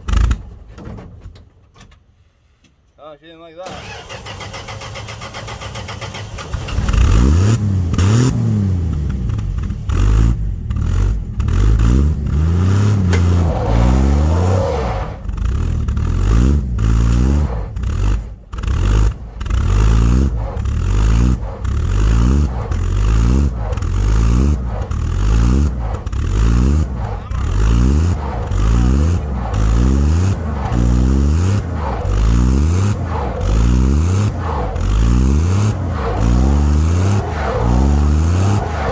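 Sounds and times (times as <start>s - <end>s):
truck engine revving: 3.7s - 38.9s.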